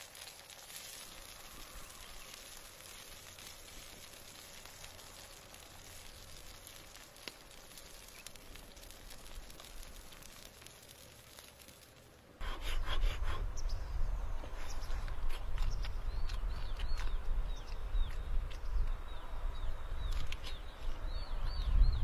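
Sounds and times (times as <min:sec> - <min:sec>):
faint sizzling hiss: 0:00.0 - 0:21.5.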